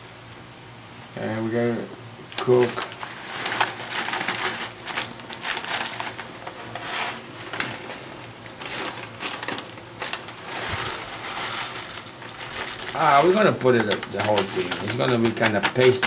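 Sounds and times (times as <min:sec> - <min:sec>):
plastic pouch crinkling: 0:02.3 - 0:16.0.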